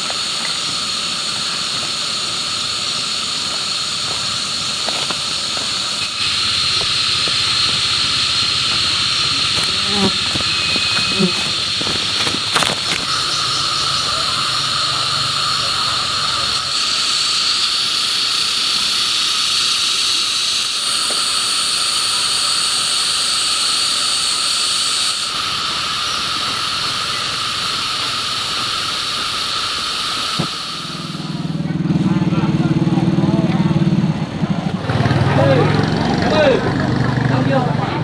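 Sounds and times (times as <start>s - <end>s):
shrill insect chorus: 0.0s - 31.6s.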